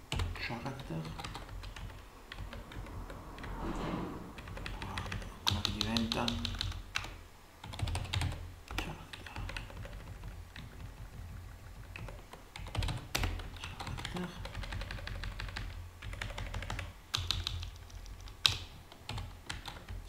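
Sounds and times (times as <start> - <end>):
low steady hum: 0.0 - 20.0
computer keyboard typing: 0.1 - 3.6, 4.4 - 20.0.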